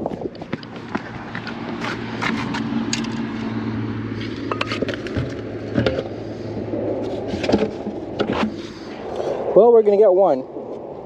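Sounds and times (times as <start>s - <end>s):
low engine hum: 0.0s - 9.6s.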